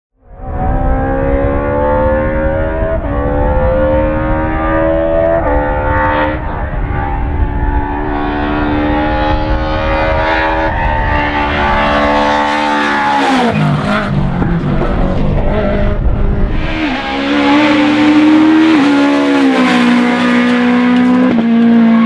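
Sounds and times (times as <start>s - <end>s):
rally car engine accelerating: 0.3s - 22.0s.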